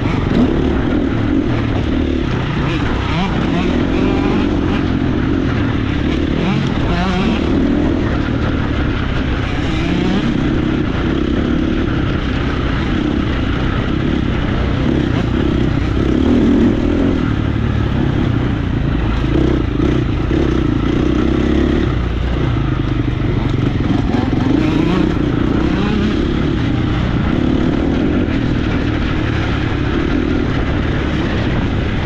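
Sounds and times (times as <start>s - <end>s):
motocross bike engine revving: 0.0s - 32.0s.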